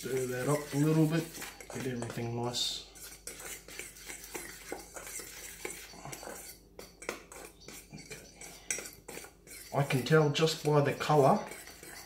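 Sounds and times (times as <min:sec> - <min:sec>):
metal spoon scraping steel bowl: 0:00.0 - 0:12.0.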